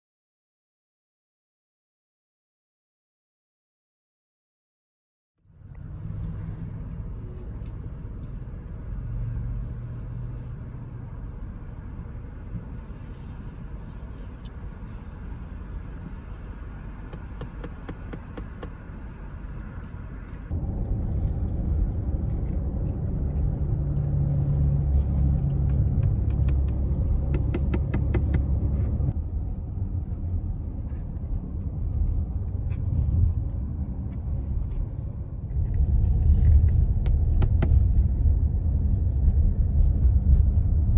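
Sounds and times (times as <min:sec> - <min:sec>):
car road and engine rumble: 0:05.4 - 0:40.9.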